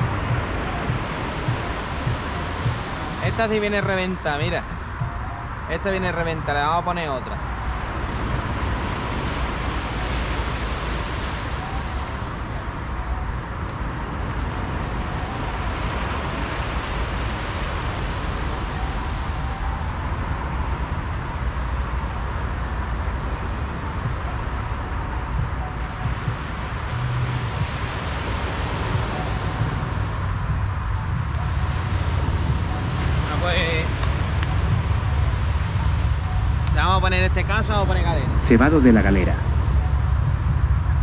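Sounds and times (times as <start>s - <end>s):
breaking surf: 0.0s - 39.9s
wind buffeting microphone: 0.0s - 41.0s.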